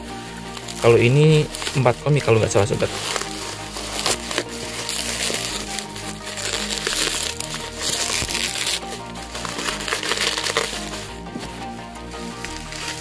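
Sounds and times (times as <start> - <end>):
background music: 0.0 - 13.0
bubble wrap crinkling: 0.0 - 13.0.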